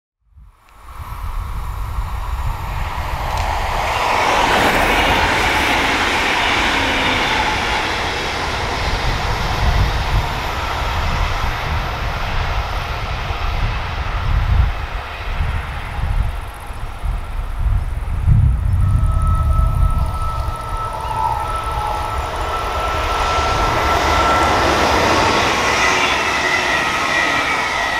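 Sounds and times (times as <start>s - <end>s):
electric train passing: 0.6s - 27.9s.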